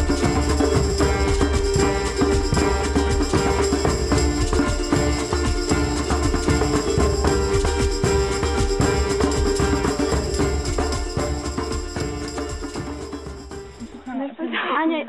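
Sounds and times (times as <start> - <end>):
music with steady beat: 0.0 - 14.1
tambourine-like percussion: 0.0 - 14.1.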